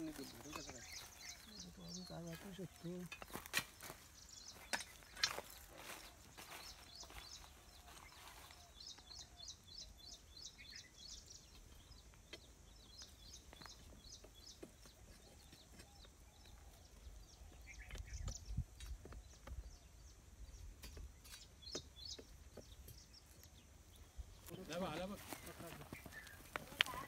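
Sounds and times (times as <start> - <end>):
faint bird chirping: 0.0 - 27.0.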